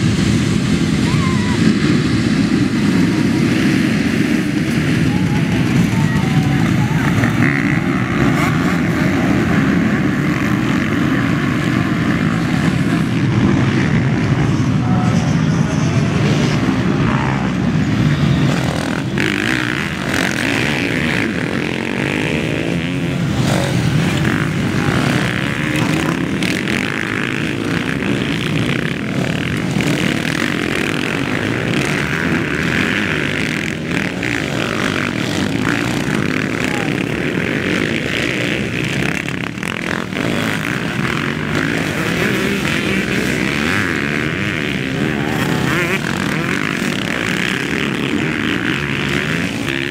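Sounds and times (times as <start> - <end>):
dirt bike engines revving: 0.0 - 49.9
dirt bike passing by: 0.0 - 49.9.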